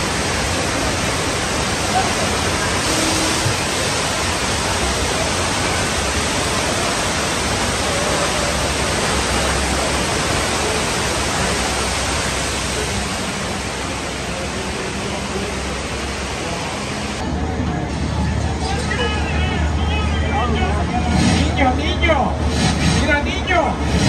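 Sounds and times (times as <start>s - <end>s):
water rushing and splashing: 0.0s - 24.0s.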